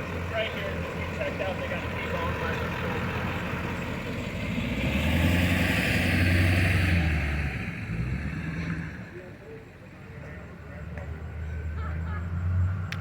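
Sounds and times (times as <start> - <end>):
vehicle driving past: 0.0 - 9.5, 10.2 - 13.0.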